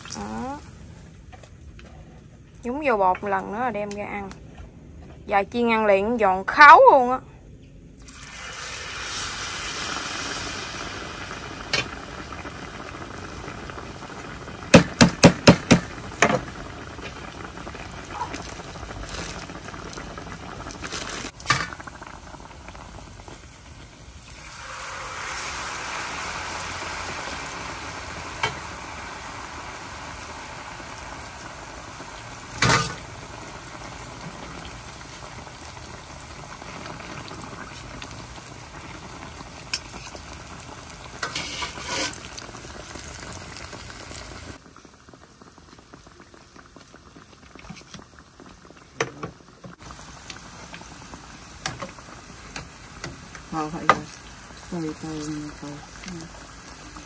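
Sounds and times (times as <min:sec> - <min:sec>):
oil sizzling in pan: 0:00.0 - 0:01.1, 0:08.0 - 0:57.0.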